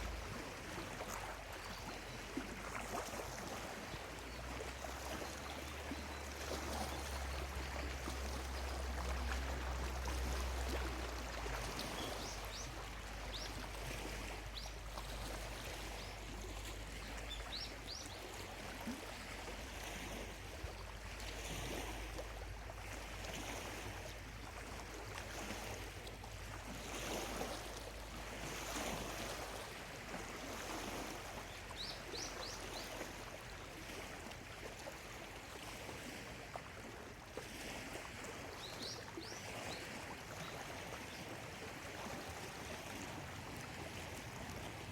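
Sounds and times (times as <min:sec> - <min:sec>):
lake waves lapping on shore: 0:00.0 - 0:44.9.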